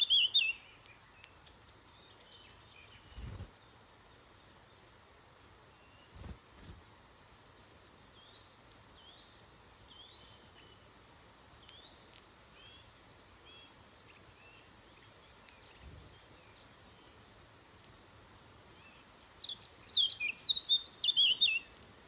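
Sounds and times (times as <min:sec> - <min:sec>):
small bird chirping: 0:00.0 - 0:06.8, 0:07.5 - 0:17.9, 0:18.7 - 0:22.0.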